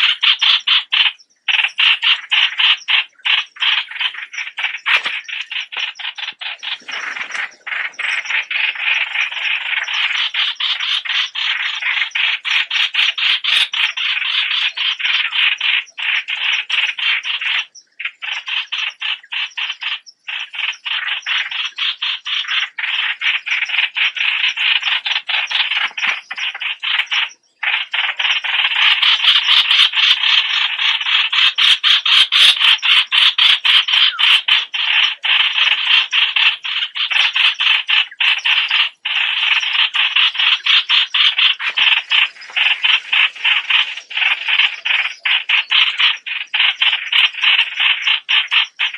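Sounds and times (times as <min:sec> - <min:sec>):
bulbuls calling: 0:00.0 - 0:48.9.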